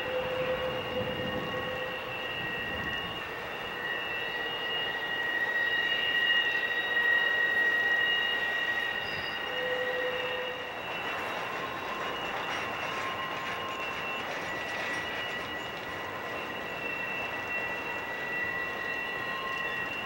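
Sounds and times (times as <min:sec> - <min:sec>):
high-pitched wheel squeal: 0:00.0 - 0:20.0
rumble of freight cars rolling: 0:00.0 - 0:20.0.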